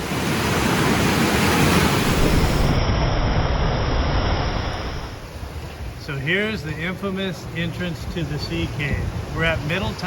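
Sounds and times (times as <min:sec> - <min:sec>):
ocean surf breaking on rocks: 0:00.0 - 0:10.0.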